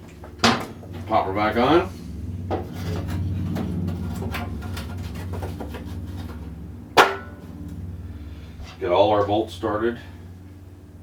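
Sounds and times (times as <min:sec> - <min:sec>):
low rubbing drone: 0:00.8 - 0:11.0.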